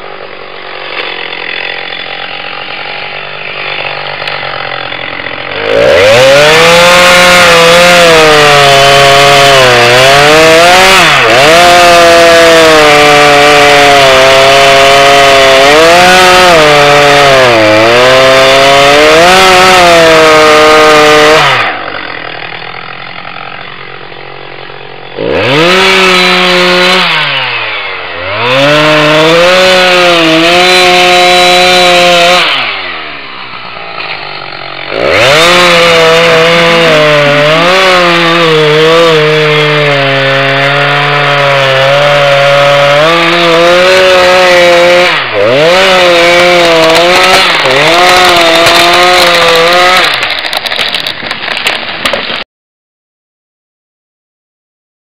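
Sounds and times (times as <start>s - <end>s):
chainsaw revving: 0.0s - 52.4s.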